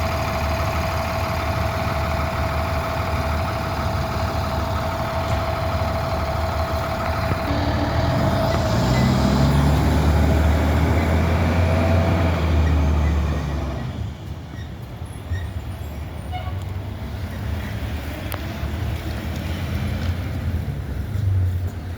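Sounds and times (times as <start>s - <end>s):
fire truck diesel engine rumble: 0.0s - 21.9s.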